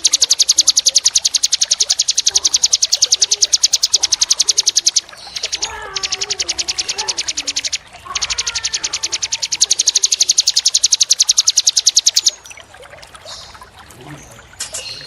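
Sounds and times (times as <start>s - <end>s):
faint bird chirps: 0.0s - 12.6s
songbird high-pitched trill: 0.0s - 12.6s
trickling water: 0.0s - 15.0s.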